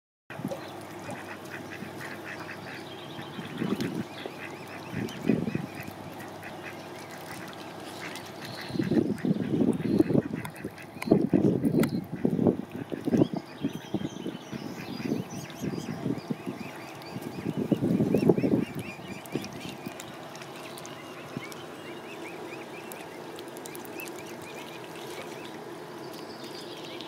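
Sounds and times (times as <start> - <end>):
ducks quacking: 0.3 - 25.6
cygnets peeping: 0.3 - 27.0.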